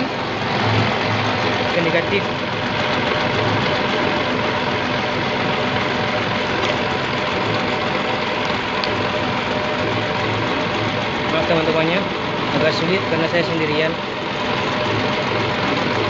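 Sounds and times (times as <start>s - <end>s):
forklift engine idling: 0.0s - 16.0s.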